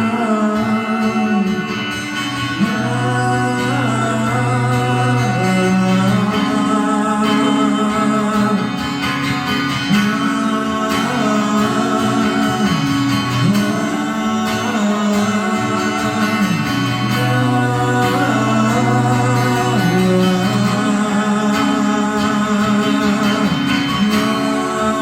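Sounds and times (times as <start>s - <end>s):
guitar: 0.0s - 25.0s
person singing wordless melody: 0.0s - 25.0s
worship band music: 0.0s - 25.0s.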